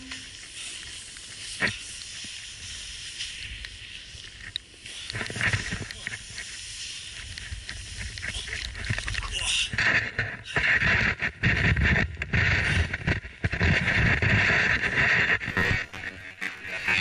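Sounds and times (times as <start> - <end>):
board swishing in snow: 0.0 - 16.6
board hissing through snow: 0.0 - 17.0.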